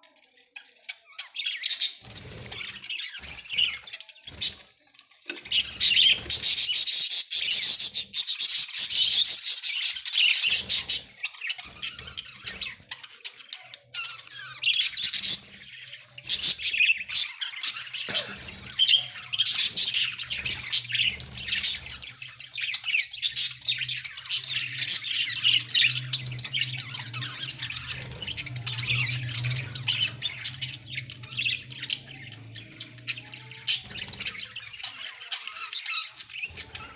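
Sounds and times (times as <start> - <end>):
budgerigars chattering and squawking: 0.8 - 4.7, 5.3 - 36.9.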